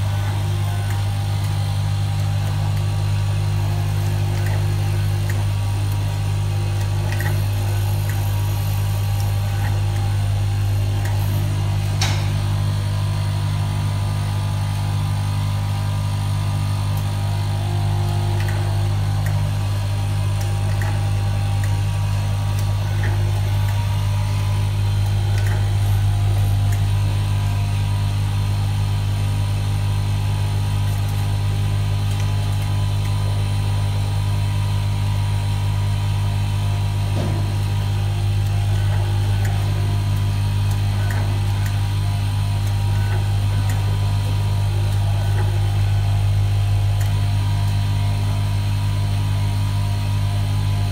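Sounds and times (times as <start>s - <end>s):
machine humming: 0.0s - 50.9s.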